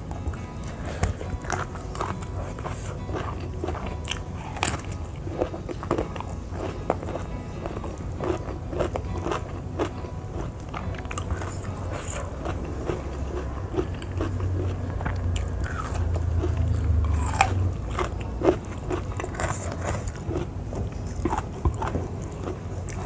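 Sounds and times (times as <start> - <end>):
crunchy vegetable chewing: 0.0 - 23.0.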